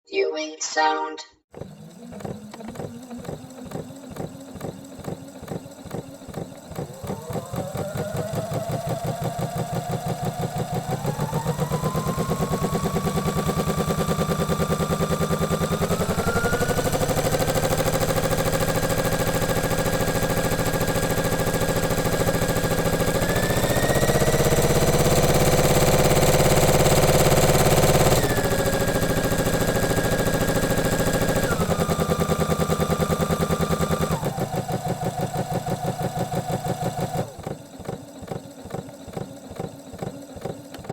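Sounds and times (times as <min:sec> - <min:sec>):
electric sewing machine running: 0:01.5 - 0:40.9.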